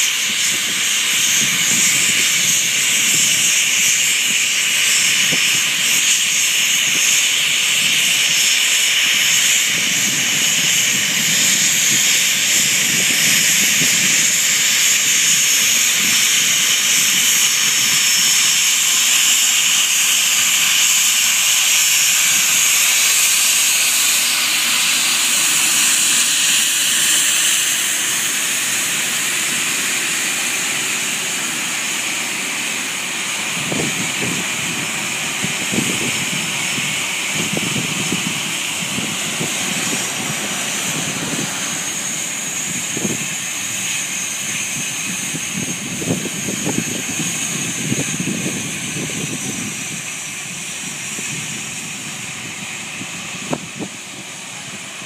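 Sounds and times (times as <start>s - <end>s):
jet engine whine and hiss: 0.0s - 55.0s.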